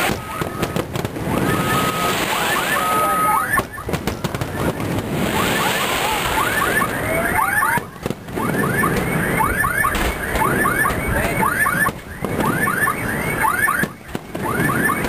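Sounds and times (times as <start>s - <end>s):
car alarm whooping: 0.0s - 15.0s
steady background noise: 0.0s - 15.0s.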